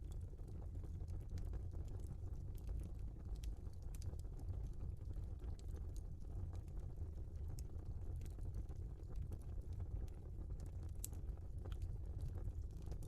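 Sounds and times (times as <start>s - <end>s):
fireplace fire crackling: 0.0s - 13.0s.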